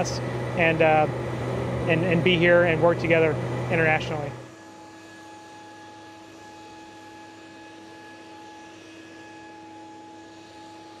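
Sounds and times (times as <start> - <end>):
soft hum of held pure tones: 0.0 - 11.0.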